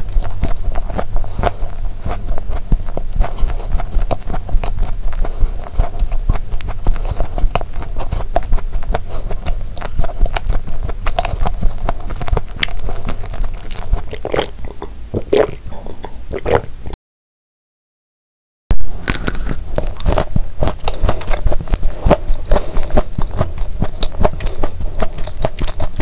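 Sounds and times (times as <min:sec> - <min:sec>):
chewing cookie with mouth clicks: 0:00.0 - 0:16.7, 0:19.0 - 0:26.0.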